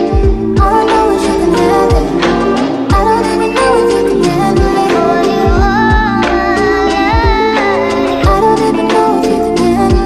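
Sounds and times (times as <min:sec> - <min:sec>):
song with beat: 0:00.0 - 0:10.0
deep bass notes sliding: 0:00.3 - 0:08.6.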